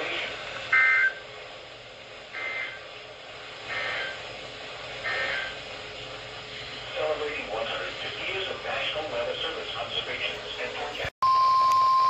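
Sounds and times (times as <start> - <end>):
radio hiss: 0.0 - 1.6, 2.2 - 11.1.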